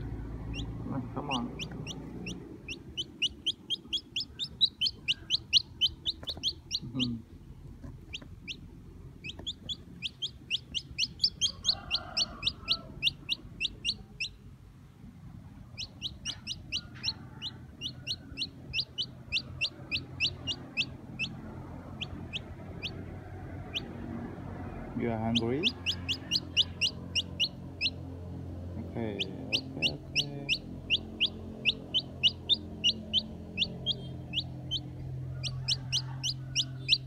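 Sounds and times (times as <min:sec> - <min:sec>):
chick peeping: 0:00.0 - 0:14.5, 0:15.4 - 0:37.0.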